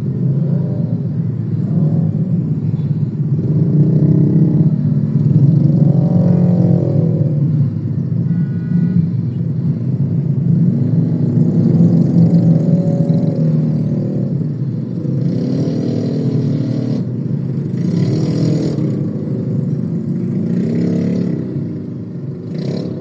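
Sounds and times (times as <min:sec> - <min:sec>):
car engine rumble: 0:00.0 - 0:23.0
motorbike engines passing: 0:00.0 - 0:23.0.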